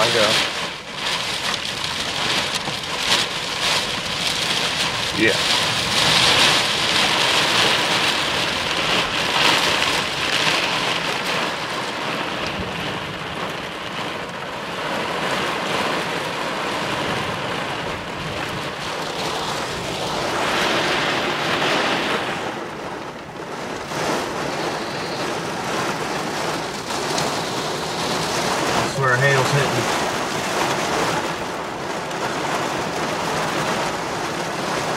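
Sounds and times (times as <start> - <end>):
heavy rain drumming on car roof: 0.0 - 34.9.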